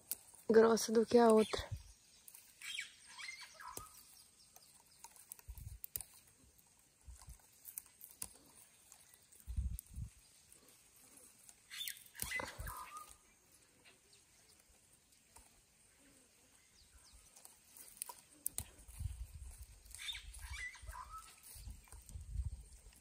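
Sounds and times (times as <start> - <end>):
onion stalks rustling and snapping: 0.0 - 23.0.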